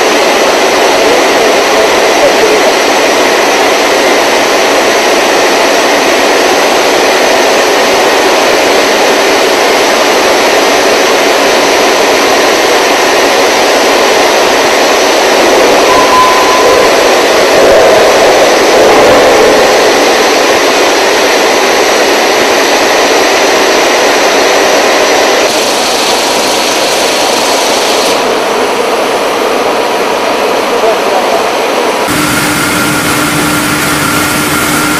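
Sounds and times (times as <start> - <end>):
rolling mill machinery noise: 0.0 - 34.9.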